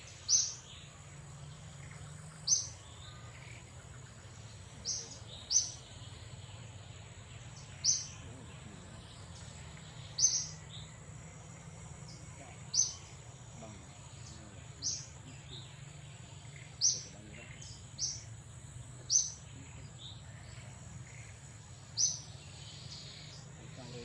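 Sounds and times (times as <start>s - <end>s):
bird chirping: 0.0s - 24.0s
low background hum: 0.0s - 24.0s.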